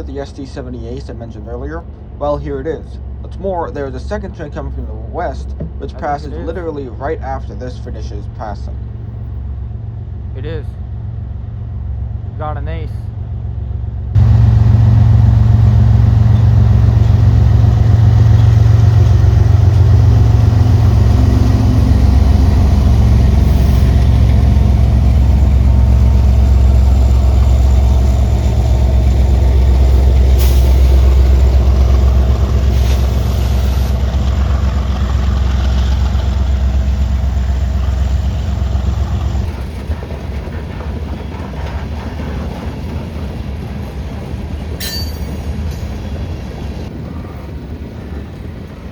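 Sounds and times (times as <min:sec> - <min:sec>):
diesel locomotive engine drone: 0:00.0 - 0:48.9
train rolling rumble: 0:00.0 - 0:48.9.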